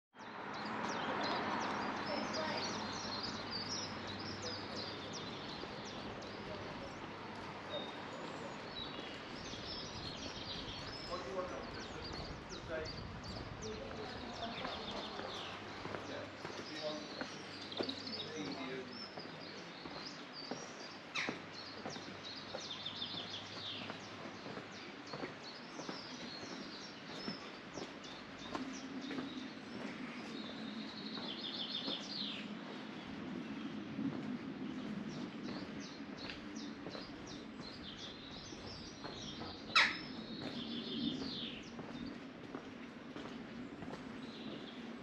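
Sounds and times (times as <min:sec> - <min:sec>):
songbirds singing trills: 0:00.1 - 0:45.0.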